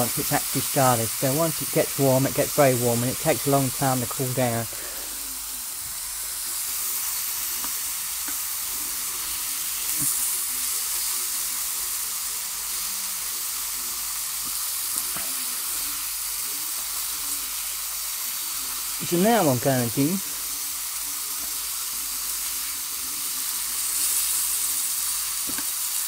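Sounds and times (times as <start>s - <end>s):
food sizzling in frying pan: 0.0s - 26.0s.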